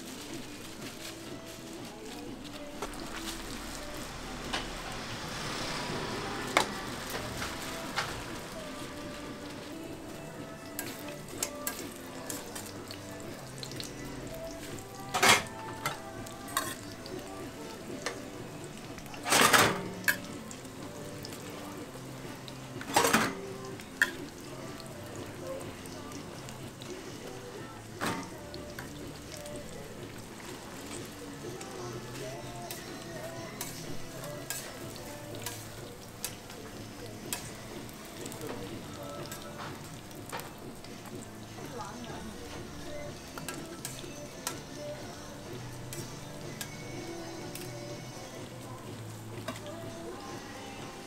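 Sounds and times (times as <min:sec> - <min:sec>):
pancakes sizzling in oil: 0:00.0 - 0:51.0.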